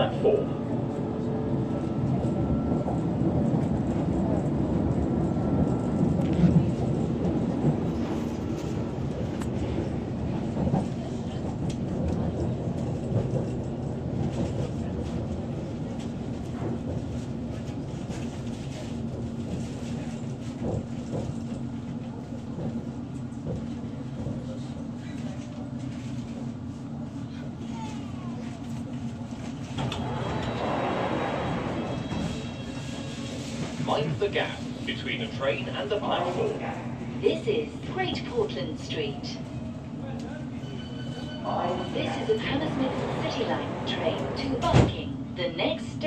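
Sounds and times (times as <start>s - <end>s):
train rumbling on track: 0.0s - 46.0s.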